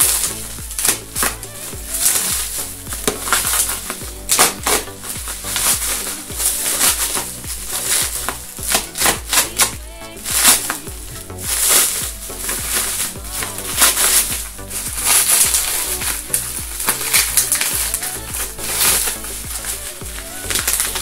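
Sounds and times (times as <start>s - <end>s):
background music: 0.0s - 21.0s
packing material crinkling: 0.0s - 21.0s.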